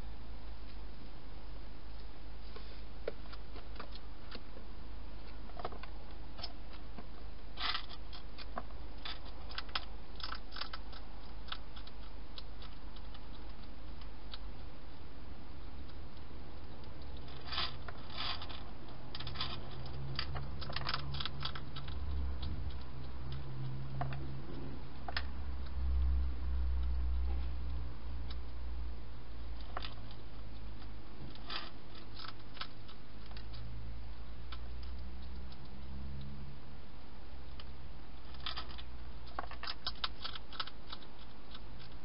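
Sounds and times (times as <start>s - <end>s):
steady low hum: 0.0s - 42.0s
hedgehog crunching food: 5.2s - 36.3s, 37.4s - 42.0s.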